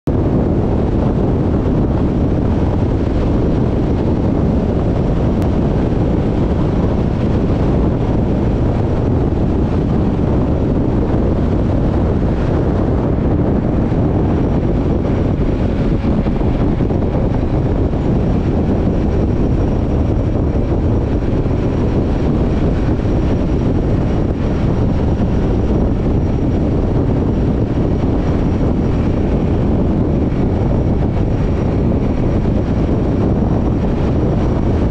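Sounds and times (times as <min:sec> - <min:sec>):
motorcycle road noise: 0:00.0 - 0:34.9
wind buffeting microphone: 0:00.0 - 0:34.9.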